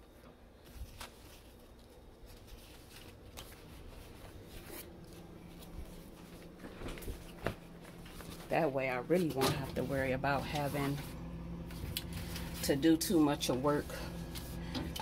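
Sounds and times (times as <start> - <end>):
paper sheets rustling: 0.6 - 15.0.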